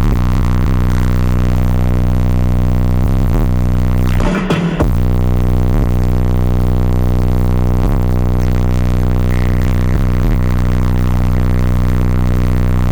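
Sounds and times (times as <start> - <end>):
bass-heavy music from subwoofers: 0.0 - 12.9.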